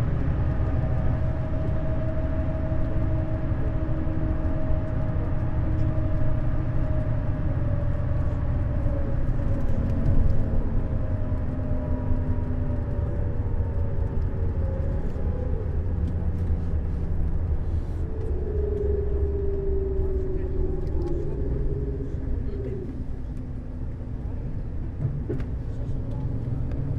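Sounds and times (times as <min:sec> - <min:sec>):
faint tones drifting lower: 0:00.0 - 0:25.0
coach engine and road rumble: 0:00.0 - 0:26.9.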